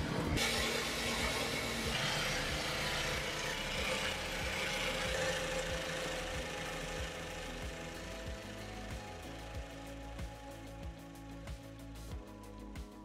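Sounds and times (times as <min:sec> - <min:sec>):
truck engine idling: 0:00.0 - 0:12.7.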